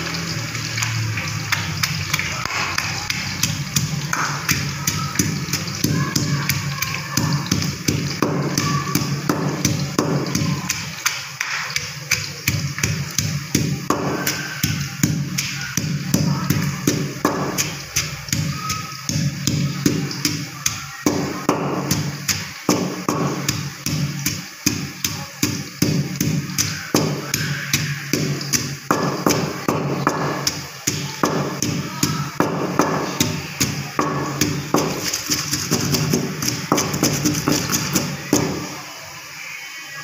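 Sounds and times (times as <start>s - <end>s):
pestle pounding in stone mortar: 0.8s - 38.7s.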